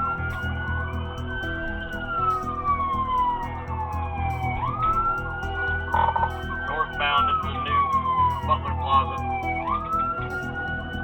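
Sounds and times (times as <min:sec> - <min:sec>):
background music: 0:00.0 - 0:11.0
police siren wailing: 0:00.0 - 0:11.0.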